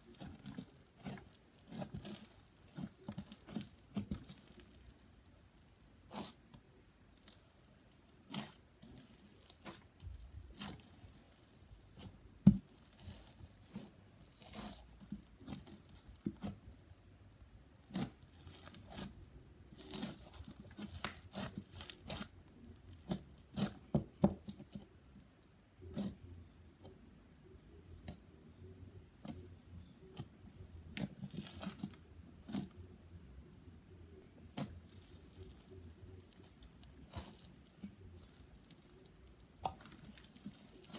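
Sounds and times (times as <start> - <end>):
foam slime crackling and popping: 0.0 - 25.0, 30.9 - 32.7, 34.4 - 40.9.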